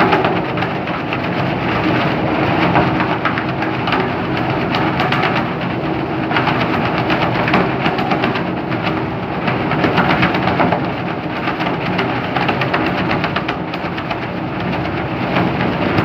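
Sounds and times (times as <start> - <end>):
machine running loudly: 0.0 - 16.0
plastic film rattling in drum: 0.0 - 16.0.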